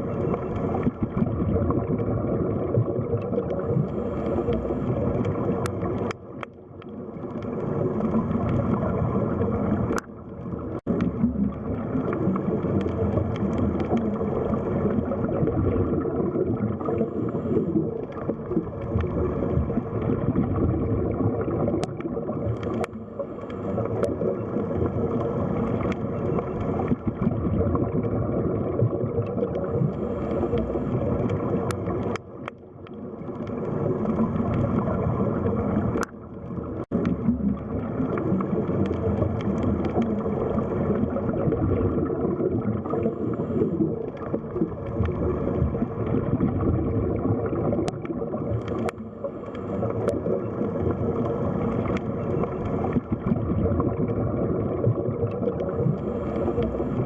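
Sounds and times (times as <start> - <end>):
muffled underwater water rush: 0.0 - 57.0.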